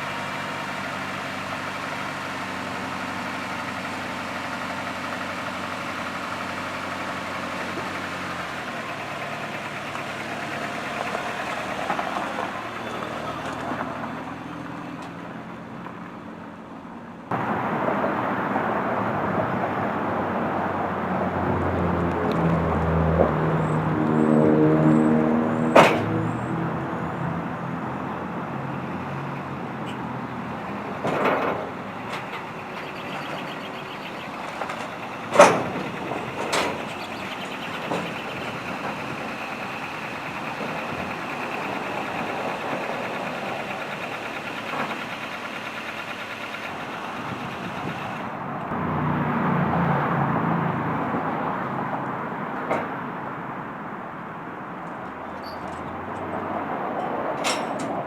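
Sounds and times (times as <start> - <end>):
vehicle engine running: 0.0 - 48.8.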